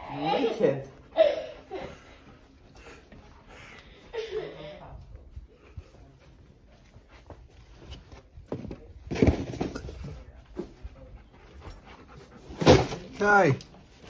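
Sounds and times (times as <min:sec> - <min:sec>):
footsteps: 0:00.8 - 0:14.0.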